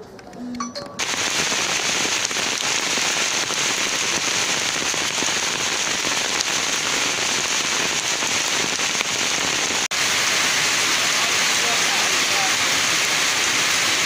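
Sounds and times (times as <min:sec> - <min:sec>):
heavy rain on shed roof: 0:01.0 - 0:14.0
water pouring off roof edge: 0:01.0 - 0:14.0.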